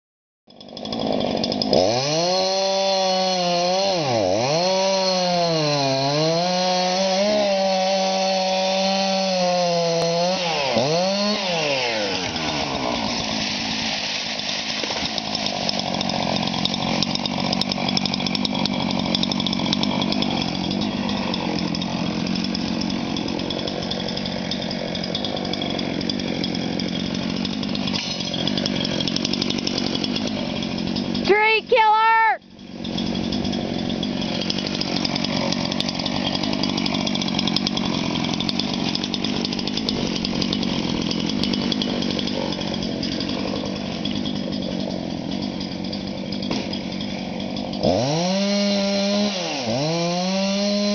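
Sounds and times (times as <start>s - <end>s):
chainsaw cutting wood: 0.5s - 50.9s.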